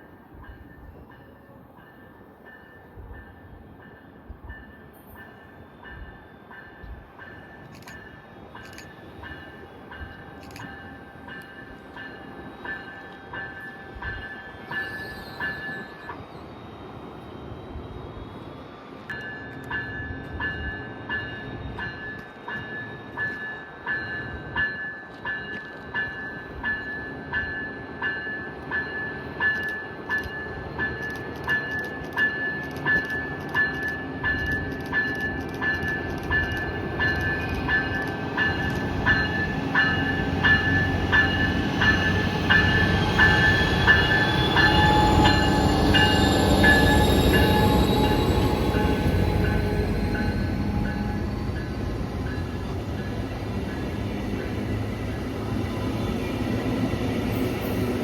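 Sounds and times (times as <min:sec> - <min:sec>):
train bell ringing: 0:00.0 - 0:58.0
train rumble: 0:00.0 - 0:58.0.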